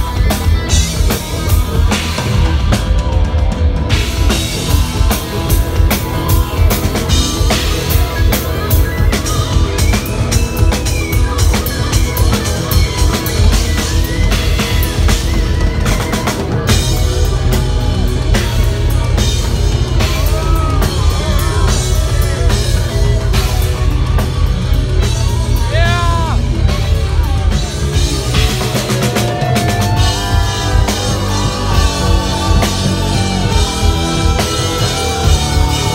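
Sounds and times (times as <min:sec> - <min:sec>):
bending lead guitar notes: 0:00.0 - 0:35.9
distorted electric guitar: 0:00.0 - 0:35.9
heavy metal band playing live: 0:00.0 - 0:35.9
pounding drum kit: 0:00.0 - 0:35.9.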